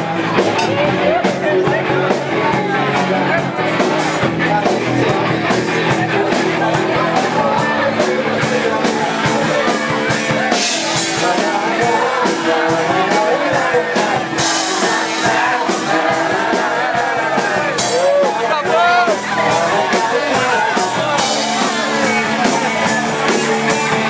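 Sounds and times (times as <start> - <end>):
loud rock music with singing: 0.0 - 24.0.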